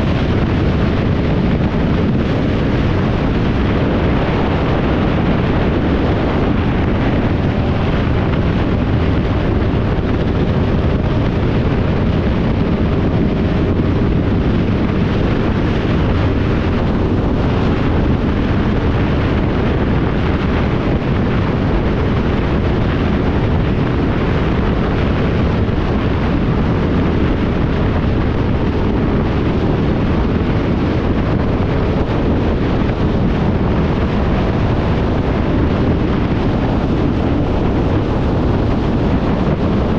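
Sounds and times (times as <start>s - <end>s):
motorcycle engine drone: 0.0s - 39.9s
wind rush on microphone: 0.0s - 39.9s.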